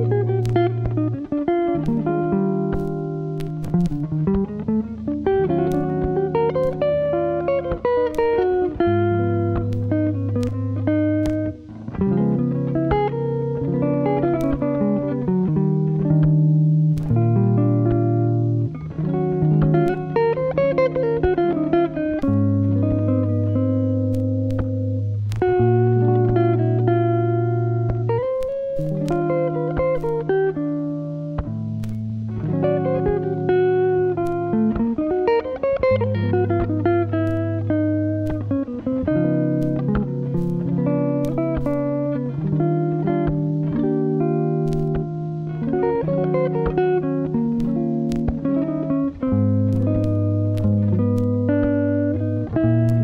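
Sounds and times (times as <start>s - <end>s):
plucked guitar notes: 0.0s - 53.0s.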